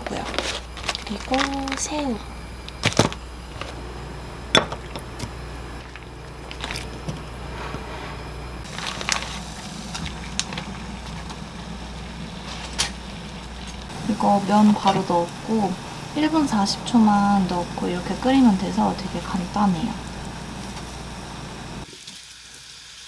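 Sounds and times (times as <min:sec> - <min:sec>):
gas burner low hum: 0:00.0 - 0:21.9.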